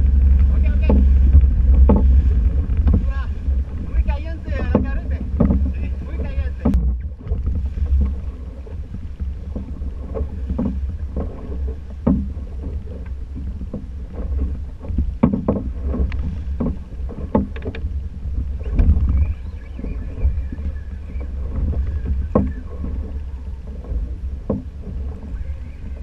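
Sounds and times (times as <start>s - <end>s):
boat knocks and thumps: 0.0s - 26.0s
wind rumble on microphone: 0.0s - 26.0s.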